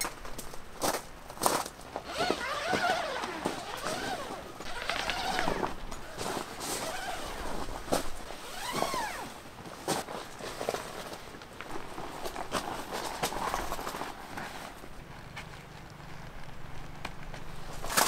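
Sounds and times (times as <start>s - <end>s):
footsteps on gravel: 0.0s - 18.0s.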